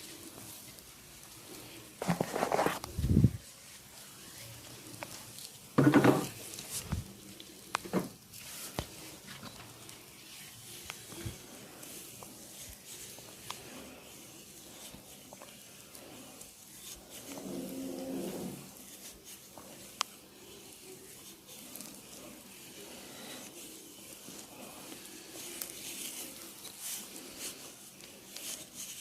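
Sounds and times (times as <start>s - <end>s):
hands rubbing during massage: 1.4s - 5.6s, 6.2s - 29.0s.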